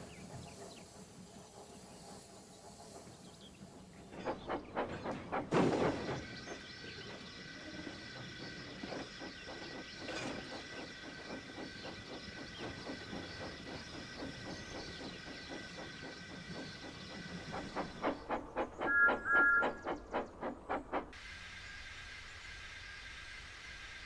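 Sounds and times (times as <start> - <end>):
steam hiss: 0.0 - 24.0
steam locomotive chuffing: 0.0 - 24.0
steam rushing: 0.0 - 24.0.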